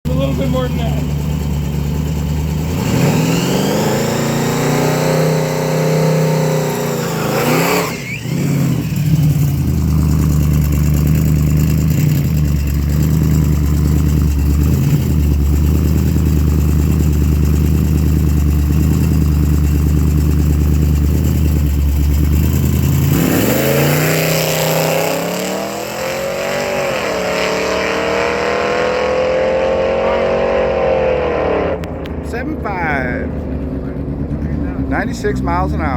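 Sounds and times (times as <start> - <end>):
supercharged truck engine revving: 0.1 - 35.9.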